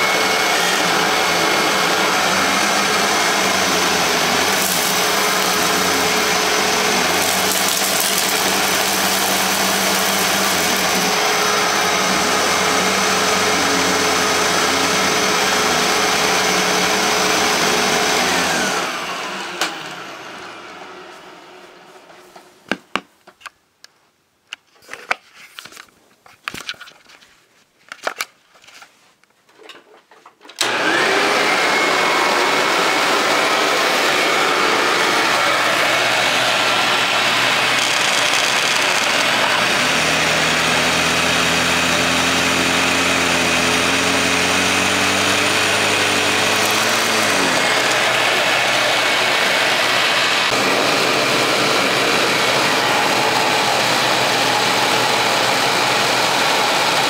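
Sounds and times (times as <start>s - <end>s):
upright vacuum cleaner motor: 0.0s - 22.1s, 30.6s - 57.0s.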